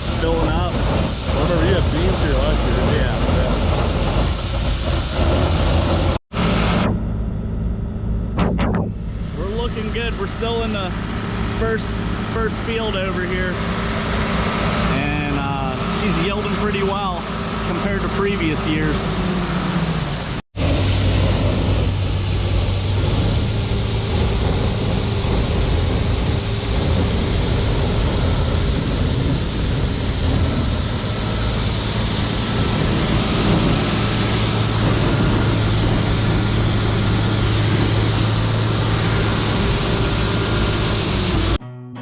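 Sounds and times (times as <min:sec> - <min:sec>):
combine harvester running: 0:00.0 - 0:41.7.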